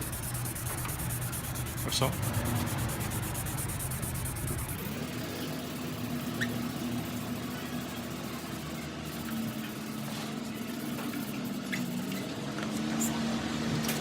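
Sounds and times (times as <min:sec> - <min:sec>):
sanding pad rubbing on plastic: 0:00.0 - 0:12.3
steady low hum: 0:00.0 - 0:12.3.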